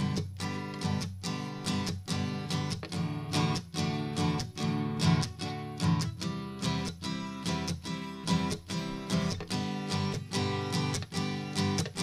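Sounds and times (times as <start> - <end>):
strummed guitar: 0.0 - 12.0.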